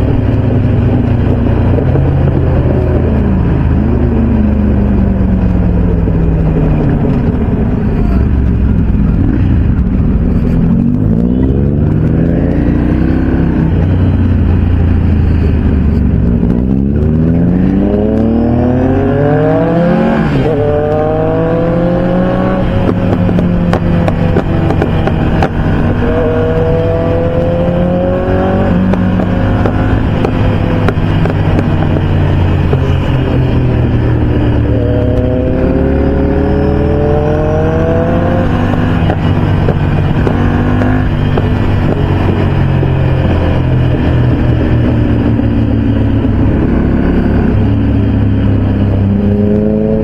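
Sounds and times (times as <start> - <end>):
motorcycle engines revving: 0.0 - 50.0.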